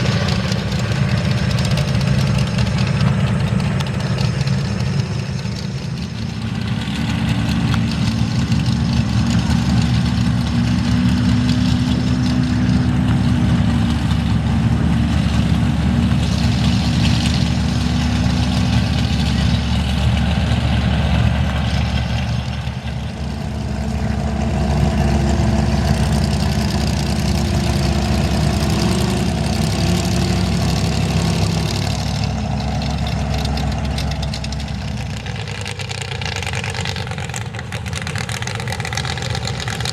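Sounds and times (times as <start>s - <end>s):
truck engines running loud: 0.0s - 39.9s.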